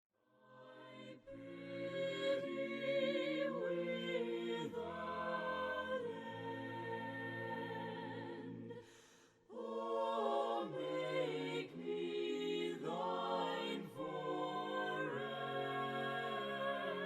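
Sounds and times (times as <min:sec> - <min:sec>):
a cappella hymn singing: 0:00.4 - 0:17.0.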